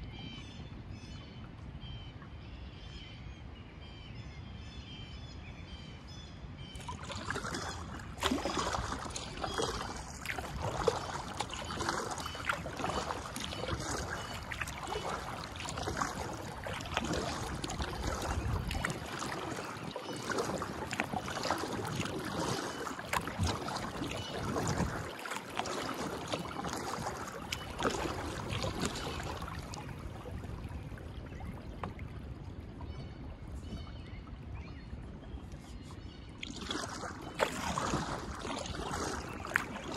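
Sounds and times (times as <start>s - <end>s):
kayak paddle splashing water: 6.7s - 39.9s.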